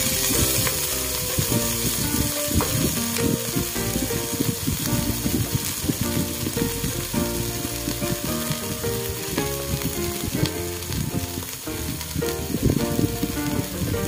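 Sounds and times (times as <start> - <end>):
background music: 0.0 - 14.0
chicken sizzling in oil: 0.0 - 14.0.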